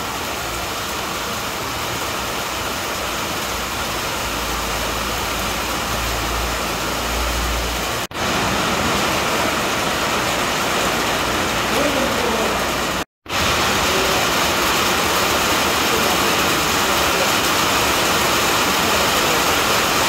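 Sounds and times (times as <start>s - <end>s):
heavy rain hissing: 0.0s - 20.0s
rain spattering on wet pavement: 0.0s - 20.0s.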